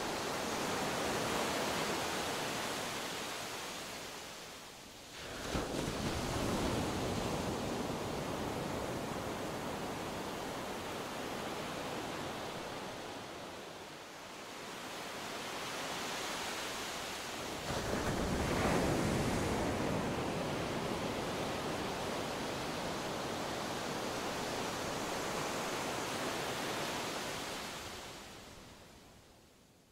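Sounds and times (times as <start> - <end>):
sea waves washing on shore: 0.0 - 28.9.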